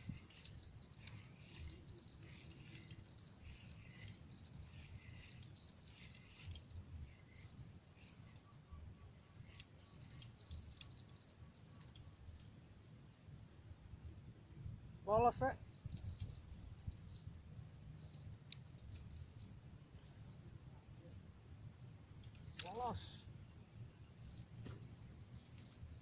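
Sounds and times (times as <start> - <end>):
insects trilling: 0.0 - 14.0, 15.6 - 26.0.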